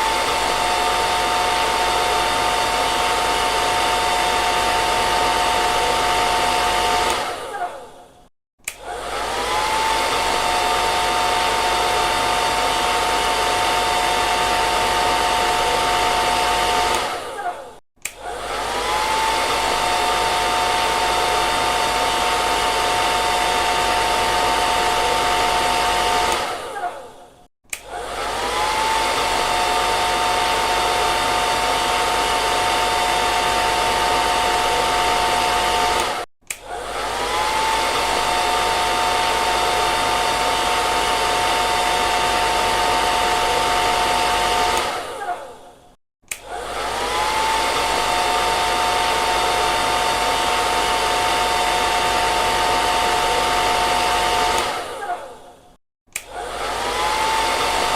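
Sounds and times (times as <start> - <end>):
hair dryer blowing: 0.0 - 57.9.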